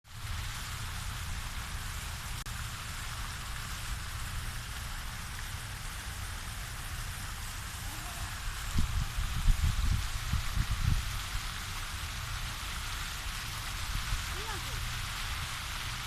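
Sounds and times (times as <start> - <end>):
waterfall rushing and splashing: 0.1 - 16.0.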